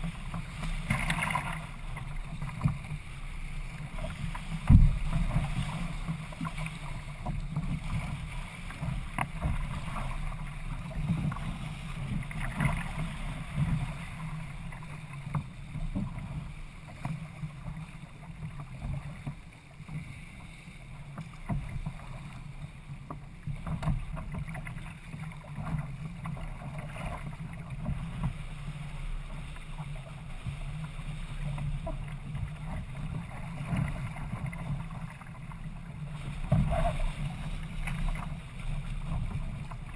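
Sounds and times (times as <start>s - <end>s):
water splashing against kayak hull: 0.0s - 39.9s
wind rumbling on microphone: 0.0s - 39.9s.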